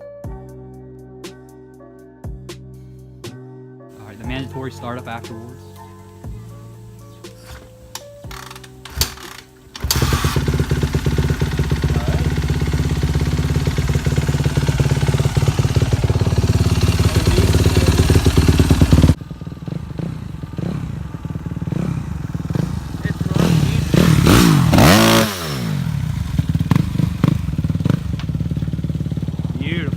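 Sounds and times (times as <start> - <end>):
dirt bike engine starting and running: 4.0 - 29.9.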